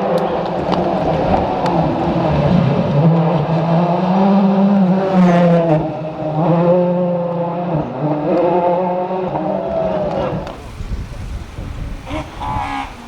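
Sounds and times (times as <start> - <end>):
rally car engine revving hard: 0.0 - 12.5.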